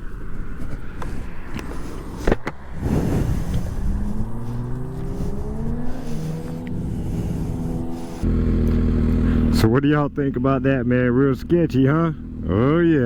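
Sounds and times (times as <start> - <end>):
low wind rumble: 0.0 - 13.0
motorcycle engine revving: 0.0 - 13.0.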